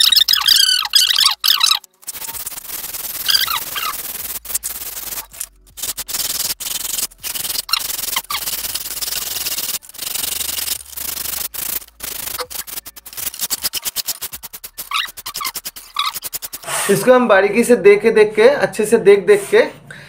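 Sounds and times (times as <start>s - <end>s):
sandpaper rubbing on foam: 0.0s - 17.1s.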